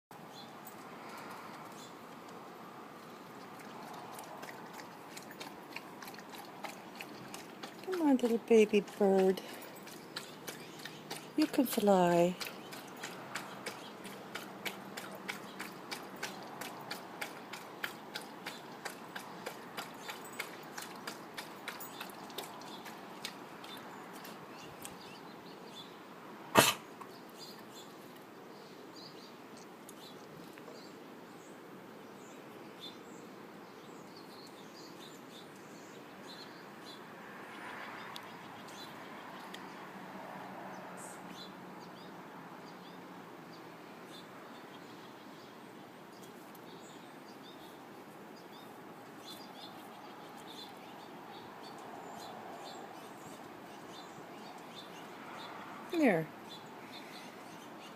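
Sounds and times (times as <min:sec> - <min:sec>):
small birds chirping: 0:00.1 - 0:39.9, 0:40.7 - 0:57.9
faint background noise: 0:00.1 - 0:57.9.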